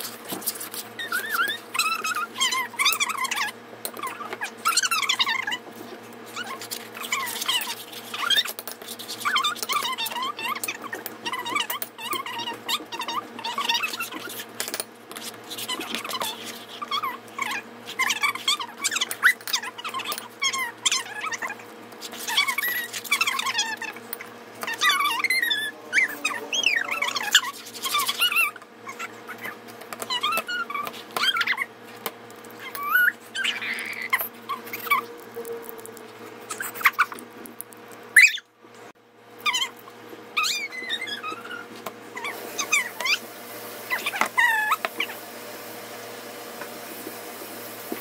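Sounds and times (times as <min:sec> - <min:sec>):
pet animal whining: 0:00.1 - 0:14.6, 0:15.2 - 0:38.5, 0:39.4 - 0:43.3, 0:43.9 - 0:45.2.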